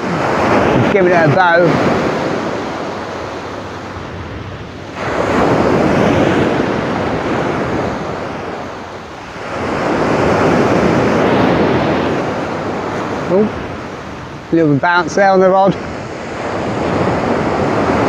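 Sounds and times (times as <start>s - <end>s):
sea surf breaking on beach: 0.0s - 18.0s
wind on microphone: 0.0s - 18.0s.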